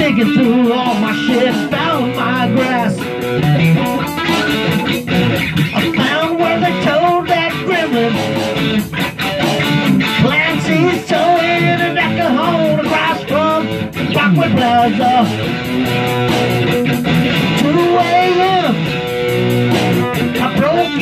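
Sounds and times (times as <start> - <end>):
rock guitar groove: 0.0 - 21.0
steady drum beat: 0.0 - 21.0
wavering lead guitar line: 0.0 - 21.0.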